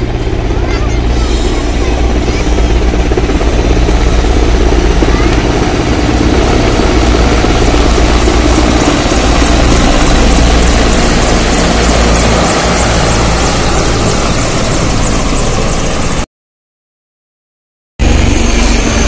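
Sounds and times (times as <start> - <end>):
helicopters flying overhead: 0.0 - 16.3, 18.0 - 19.0.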